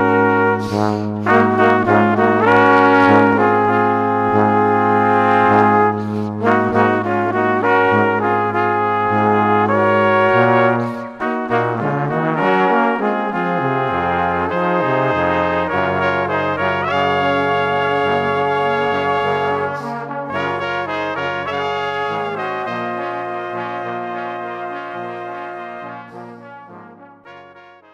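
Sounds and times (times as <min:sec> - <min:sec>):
music of held chords: 0:00.0 - 0:27.9.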